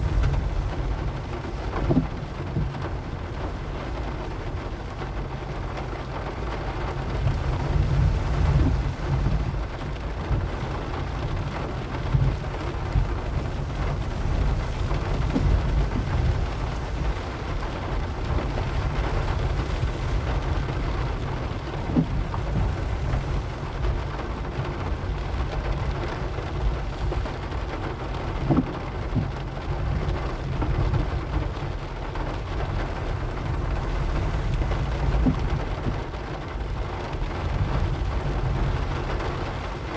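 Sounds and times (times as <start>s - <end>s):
low rumble of car and road: 0.0s - 39.9s
rain on a moving car: 0.0s - 39.9s.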